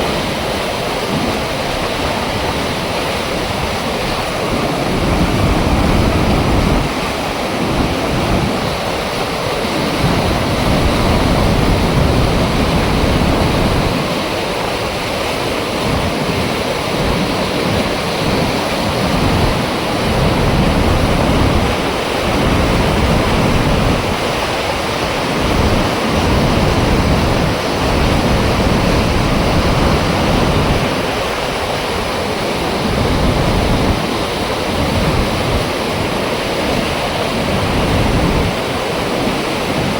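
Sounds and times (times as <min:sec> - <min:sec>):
low water rumble: 0:00.0 - 0:39.9
water rushing through gate: 0:00.0 - 0:39.9.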